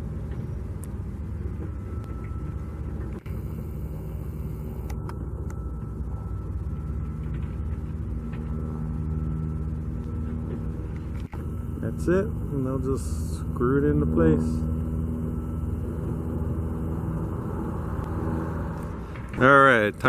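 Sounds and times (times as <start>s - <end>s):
engines rumbling: 0.0s - 20.0s
faint high whine: 0.0s - 20.0s.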